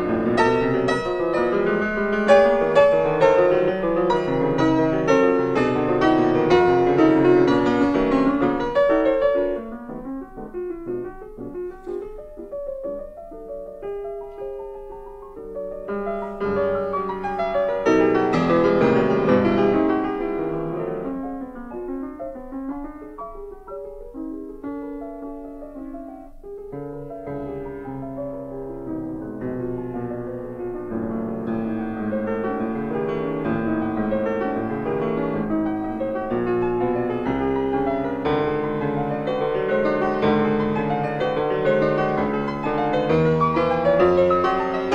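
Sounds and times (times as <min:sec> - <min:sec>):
slow piano music: 0:00.0 - 0:44.9.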